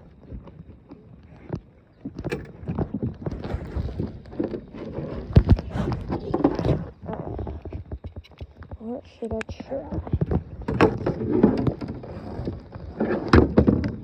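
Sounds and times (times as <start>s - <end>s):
fishing gear clattering in boat: 0.2s - 9.0s, 9.6s - 14.0s.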